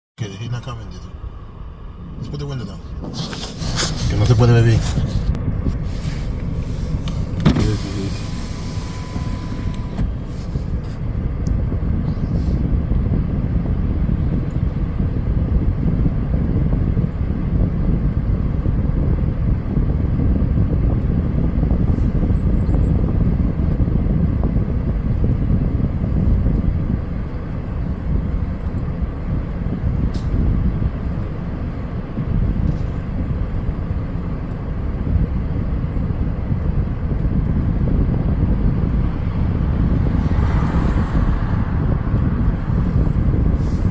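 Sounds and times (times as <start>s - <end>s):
wind through open car window: 0.2s - 43.9s.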